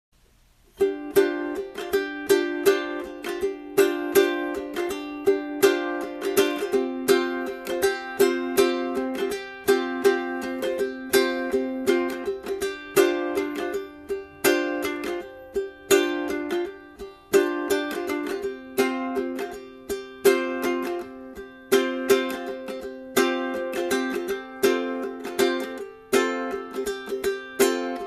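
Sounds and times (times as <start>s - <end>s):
plucked string instrument tune: 0.6s - 28.0s.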